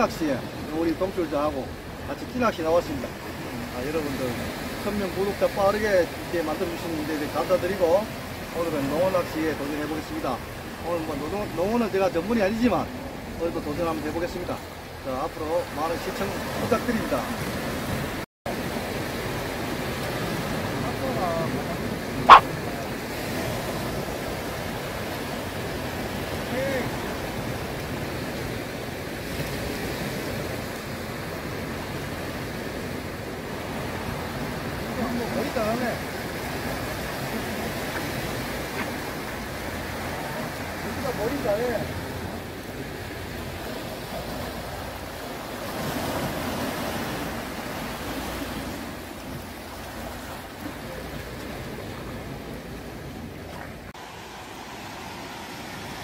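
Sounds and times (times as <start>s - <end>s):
waves washing against rocky shore: 0.0s - 56.0s.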